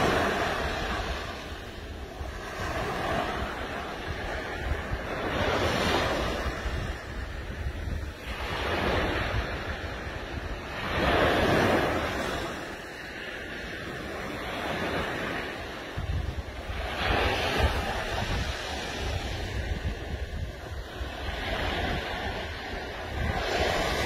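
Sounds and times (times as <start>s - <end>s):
surf washing onto beach: 0.0s - 24.0s
wind rumbling on microphone: 0.0s - 24.0s.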